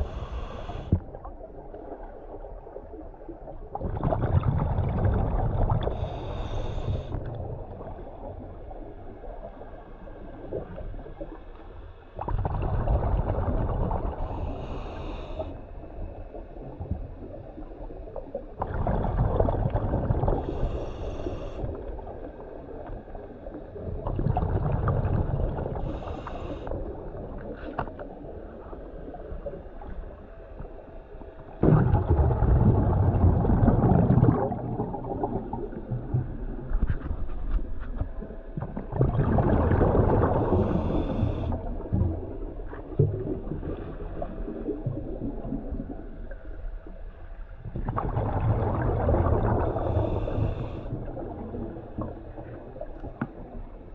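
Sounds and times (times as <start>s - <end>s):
underwater exhaled bubbles gurgling: 0.0s - 53.9s.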